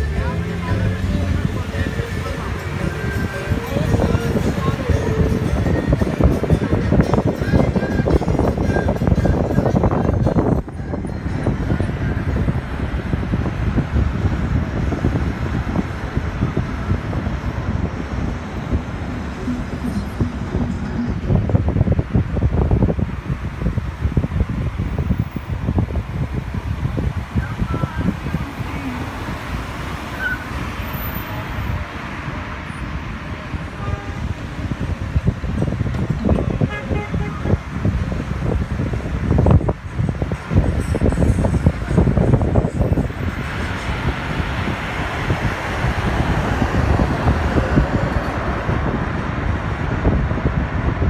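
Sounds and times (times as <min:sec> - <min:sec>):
road traffic: 0:00.0 - 0:51.0
wind buffeting microphone: 0:00.0 - 0:51.0.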